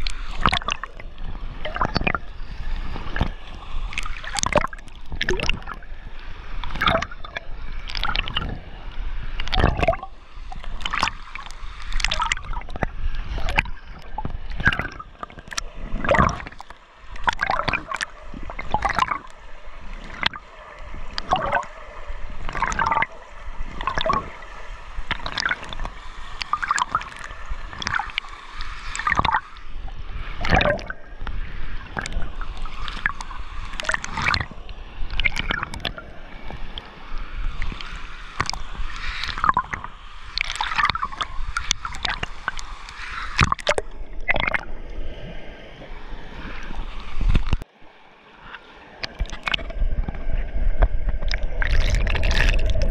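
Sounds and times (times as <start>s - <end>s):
muffled underwater rushing: 0.0s - 52.9s
water churning from swimming strokes: 0.0s - 52.9s.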